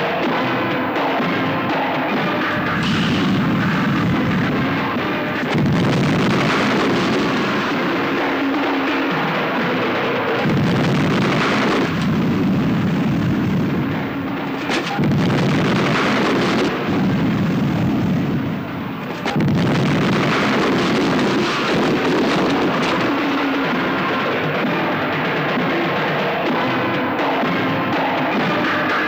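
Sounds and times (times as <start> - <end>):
low rumbling blasts: 1.5 - 26.1.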